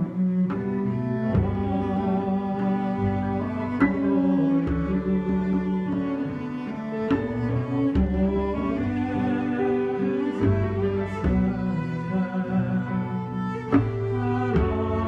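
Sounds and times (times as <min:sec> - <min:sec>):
slow bowed strings music: 0:00.0 - 0:15.0.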